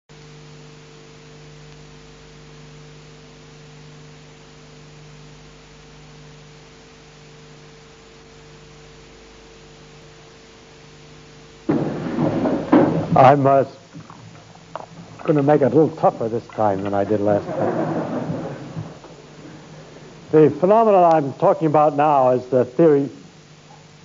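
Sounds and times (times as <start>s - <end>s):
electrical hum: 0.1s - 24.0s
recording hiss: 0.1s - 24.0s.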